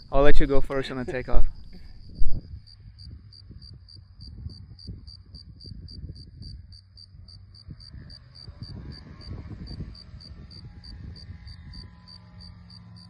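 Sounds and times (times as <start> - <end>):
wind on microphone: 0.0 - 12.0
insect chirping: 0.0 - 13.0
distant light aircraft engine: 1.2 - 13.0.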